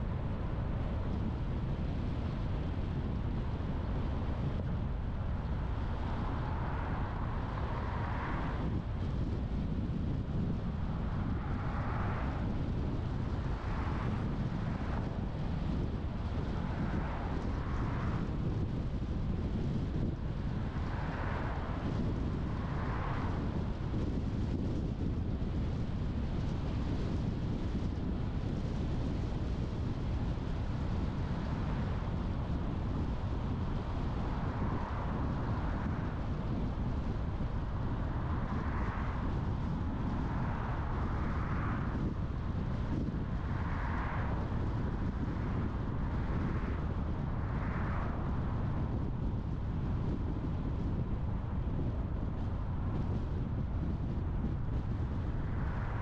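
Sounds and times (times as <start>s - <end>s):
car driving with tyre hiss: 0.0s - 56.0s.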